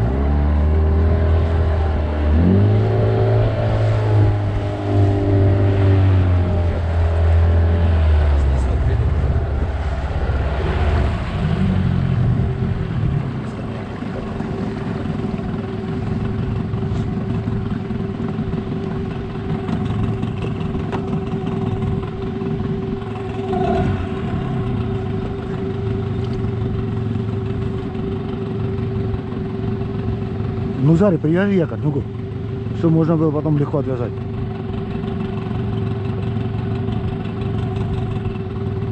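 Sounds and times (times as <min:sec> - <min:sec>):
boat motor humming: 0:00.0 - 0:38.9.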